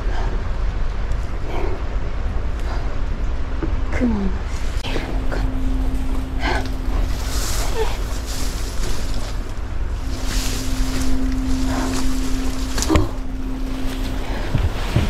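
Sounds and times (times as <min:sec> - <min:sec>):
low hum: 0:00.0 - 0:15.0
wind rumbling on microphone: 0:00.0 - 0:15.0.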